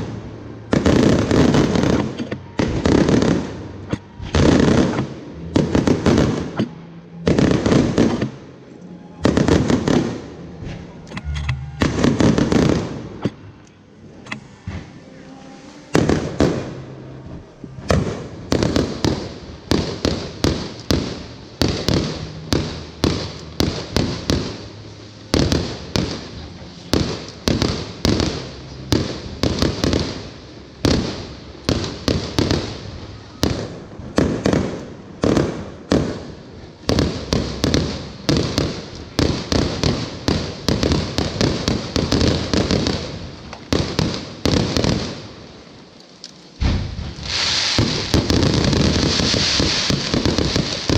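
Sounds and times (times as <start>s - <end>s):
fireworks banging: 0.0s - 50.9s.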